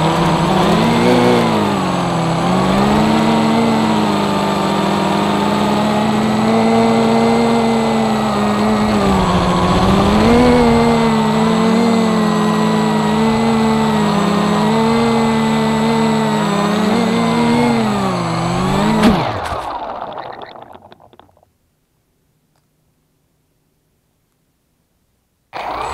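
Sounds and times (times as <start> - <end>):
quadcopter propellers buzzing: 0.0 - 21.0, 25.6 - 25.9.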